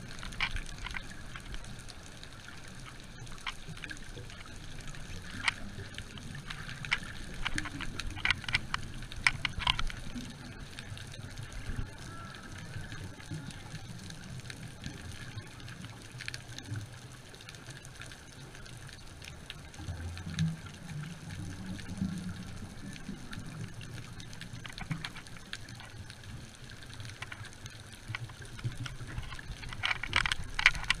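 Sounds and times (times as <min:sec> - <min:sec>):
underwater clicks and crackles: 0:00.0 - 0:31.0
underwater low rumble: 0:00.0 - 0:31.0.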